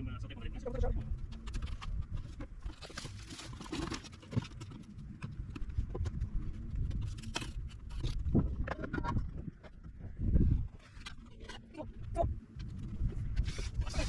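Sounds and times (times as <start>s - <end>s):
knocks and scrapes: 0.9s - 14.0s.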